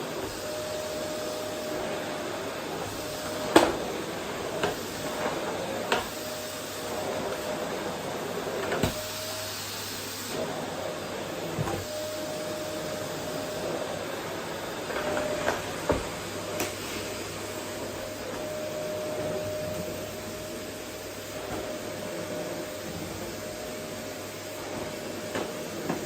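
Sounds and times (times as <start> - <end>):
vacuum cleaner on wooden floor: 0.0 - 26.0.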